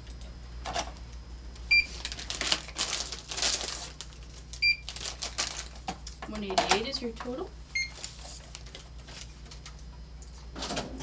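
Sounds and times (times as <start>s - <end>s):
rustling and handling noise: 0.6s - 11.0s.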